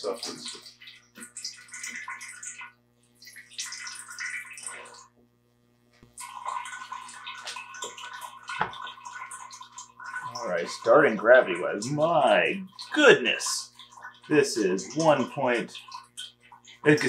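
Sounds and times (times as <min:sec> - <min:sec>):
juice pouring and splashing: 0:00.0 - 0:05.2, 0:06.1 - 0:17.0.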